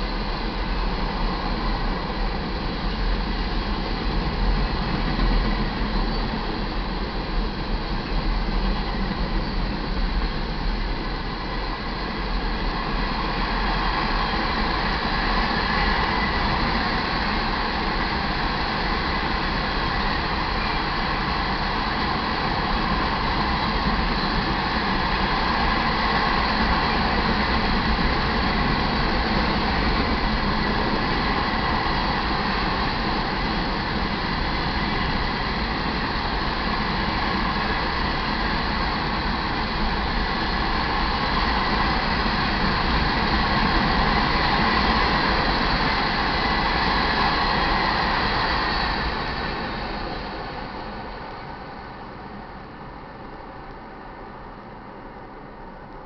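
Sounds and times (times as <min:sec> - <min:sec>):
train wheels clattering on rail: 0:00.0 - 0:56.0.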